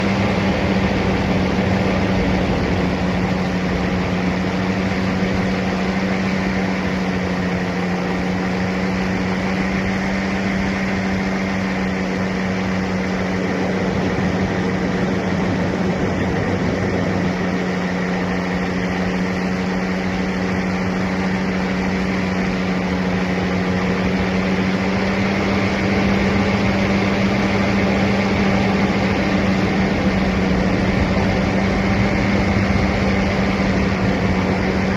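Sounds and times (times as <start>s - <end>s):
paramotor engine running: 0.0s - 34.9s.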